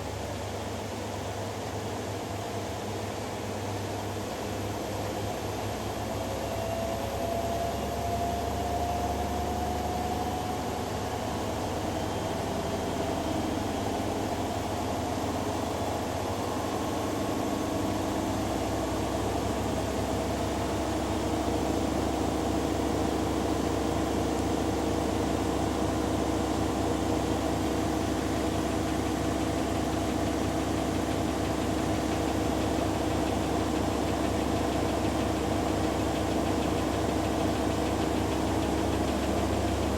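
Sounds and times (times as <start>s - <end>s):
washing machines spinning: 0.0s - 39.9s.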